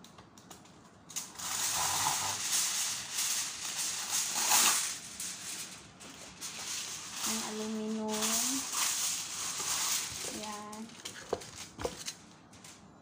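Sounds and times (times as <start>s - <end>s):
aluminum foil crackling: 0.0s - 12.9s.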